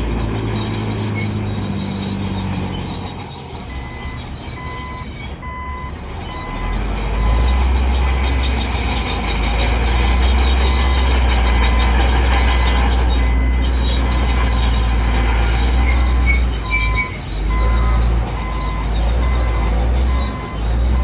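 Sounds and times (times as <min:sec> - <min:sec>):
diesel engine rumble: 0:00.0 - 0:21.0
steel tracks squealing and clanking: 0:00.0 - 0:21.0.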